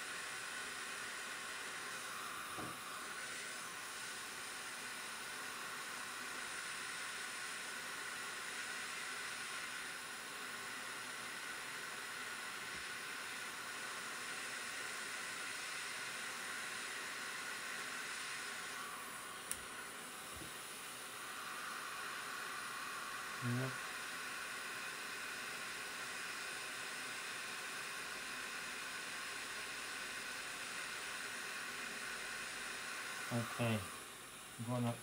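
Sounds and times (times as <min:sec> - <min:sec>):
hot air station hissing: 0:00.0 - 0:35.0.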